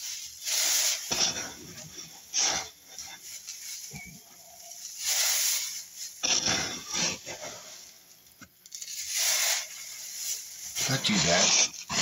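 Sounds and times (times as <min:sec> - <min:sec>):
cat litter raked and scooped: 0:00.0 - 0:08.0, 0:08.7 - 0:12.0.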